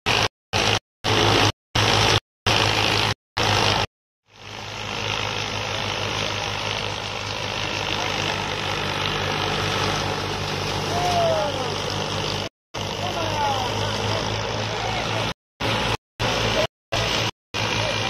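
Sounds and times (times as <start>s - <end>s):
threshing drum whirring: 0.1s - 18.0s
tractor engine hum: 0.1s - 18.0s.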